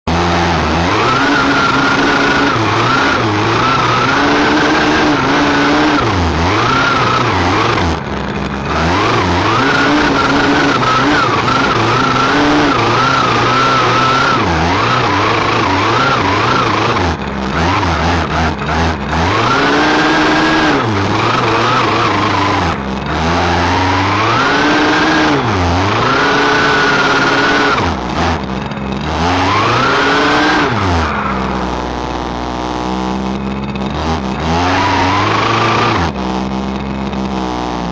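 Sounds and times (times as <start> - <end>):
small petrol engine revving: 0.0 - 37.9.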